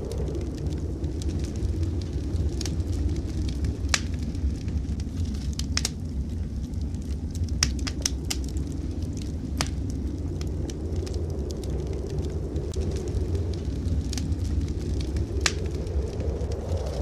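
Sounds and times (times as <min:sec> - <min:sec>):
blizzard wind rumble: 0:00.0 - 0:17.0
wood fire crackling: 0:00.0 - 0:17.0.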